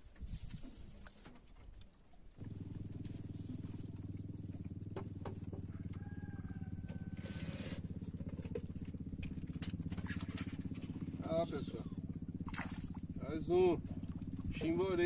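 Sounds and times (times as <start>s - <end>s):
low pulsing motor drone: 2.3s - 15.0s.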